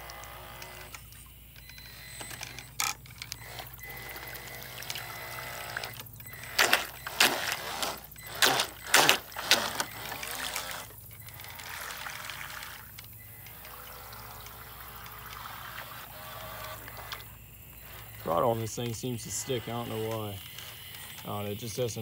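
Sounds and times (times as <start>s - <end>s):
boat propeller churning water: 0.0s - 22.0s.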